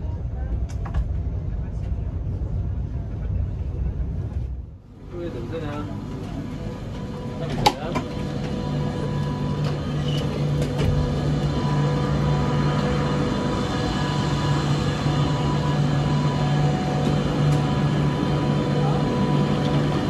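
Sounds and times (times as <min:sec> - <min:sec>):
low electric hum: 0:00.0 - 0:20.0.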